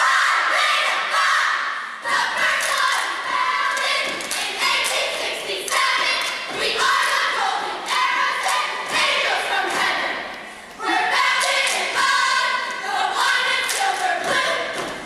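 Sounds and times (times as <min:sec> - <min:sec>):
women chanting in unison: 0:00.0 - 0:15.0.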